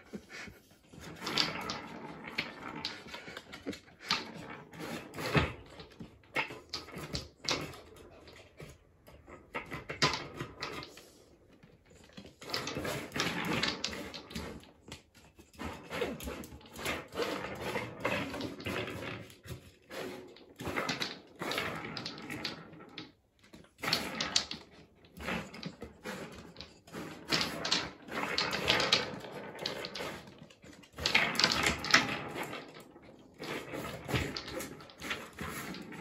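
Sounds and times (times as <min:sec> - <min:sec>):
balls rattling in toy tracks: 0:00.0 - 0:11.2, 0:11.8 - 0:36.0.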